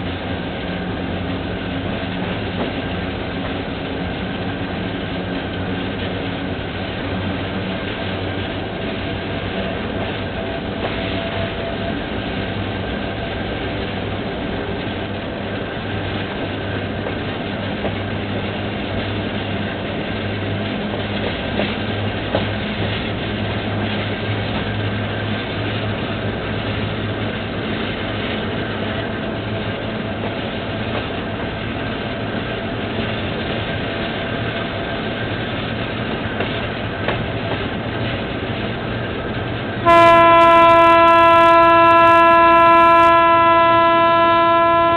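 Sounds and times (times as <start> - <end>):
locomotive low drone: 0.0 - 44.9
train wheels rumbling on track: 0.0 - 44.9.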